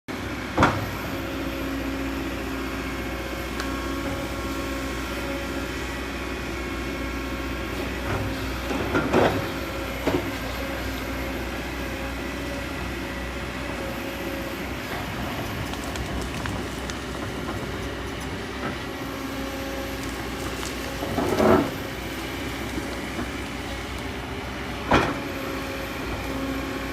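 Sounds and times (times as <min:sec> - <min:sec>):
excavator diesel engine running: 0:00.1 - 0:26.9.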